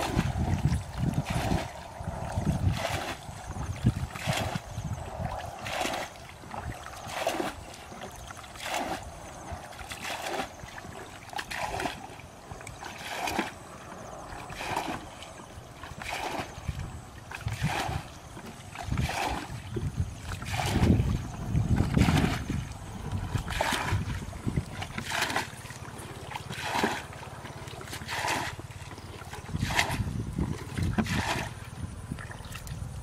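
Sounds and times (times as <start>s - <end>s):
water splashing from bucket: 0.0s - 13.7s, 14.3s - 32.9s.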